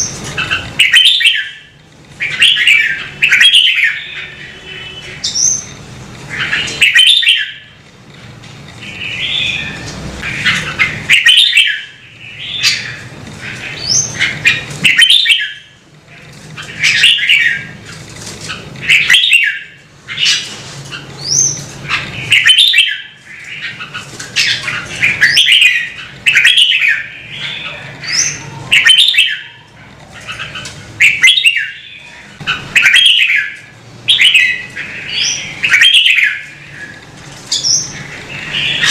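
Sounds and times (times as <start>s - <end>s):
bird singing warbling phrases: 0.0s - 38.9s.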